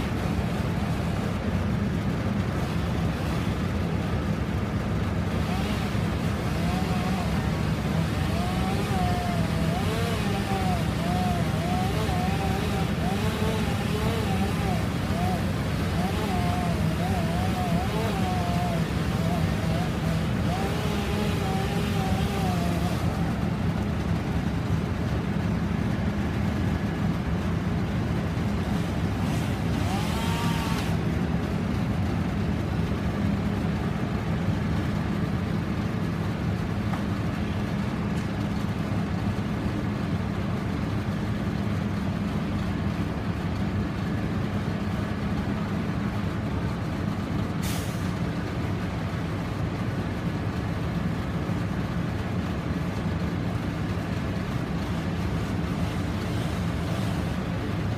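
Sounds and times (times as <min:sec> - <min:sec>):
truck engine running: 0:00.0 - 0:57.9.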